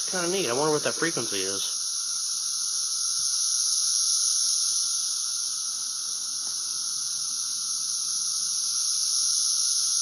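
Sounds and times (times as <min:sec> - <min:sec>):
cicadas buzzing: 0:00.0 - 0:10.0.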